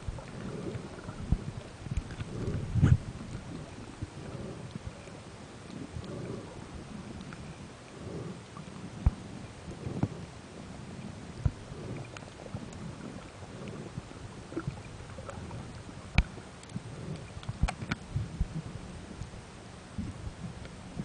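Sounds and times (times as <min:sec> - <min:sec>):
muffled underwater rumble: 0:00.0 - 0:21.0.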